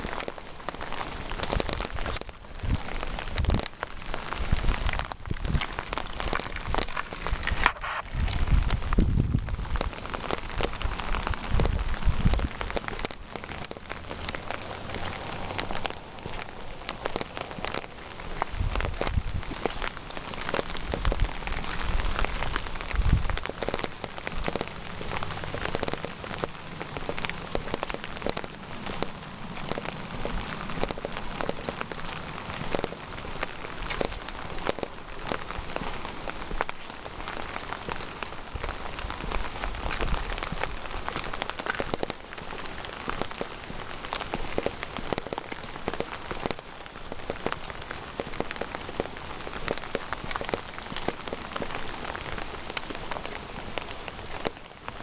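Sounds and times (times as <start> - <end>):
rain drops on hard surfaces: 0.0 - 55.0.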